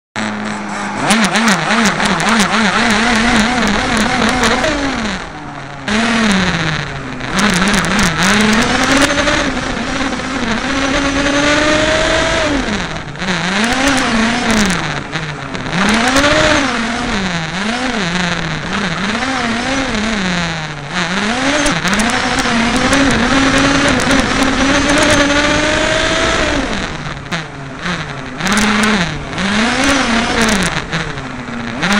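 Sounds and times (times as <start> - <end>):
sharp clicks and rattles: 0.2 - 31.9
small two-stroke engine revving: 0.2 - 31.9.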